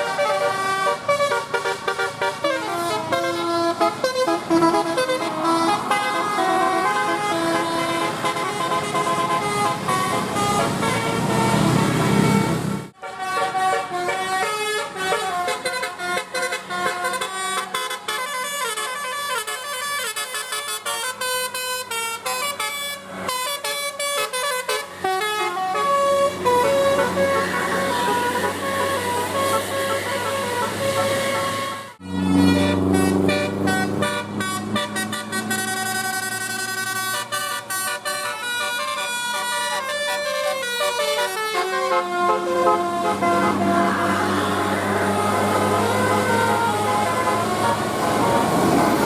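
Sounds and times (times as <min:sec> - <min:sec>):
bus musical horn playing tunes: 0:00.0 - 0:49.0.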